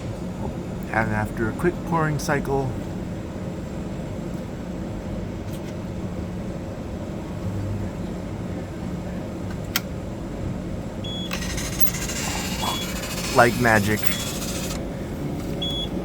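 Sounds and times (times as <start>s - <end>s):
vending machine humming: 0.0s - 16.0s.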